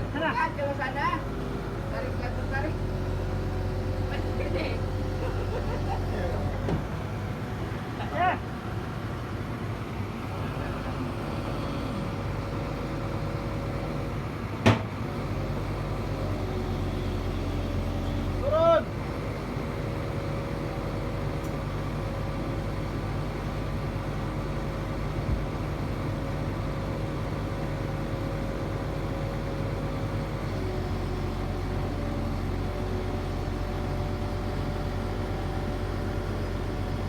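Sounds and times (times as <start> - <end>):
crane mechanical drone: 0.0 - 37.0.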